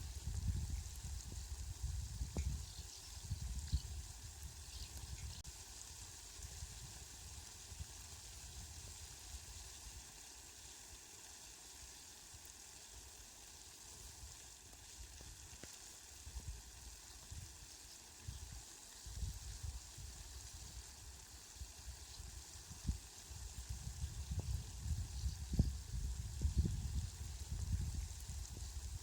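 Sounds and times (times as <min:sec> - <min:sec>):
steady rain falling: 0:00.1 - 0:29.0.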